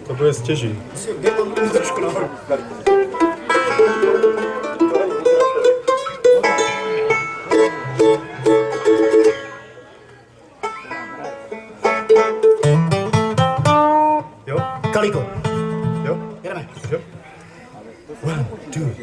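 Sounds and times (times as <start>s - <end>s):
banjo picking: 0.0s - 18.6s
mandolin picking: 0.0s - 18.9s.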